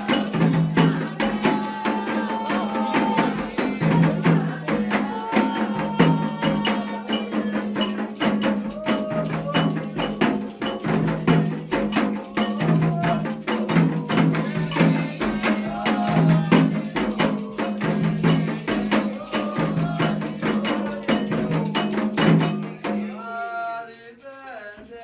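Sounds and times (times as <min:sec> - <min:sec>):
drums: 0:00.0 - 0:23.2
wood-block-like strikes: 0:00.0 - 0:23.4
voices singing a chant: 0:00.0 - 0:25.0.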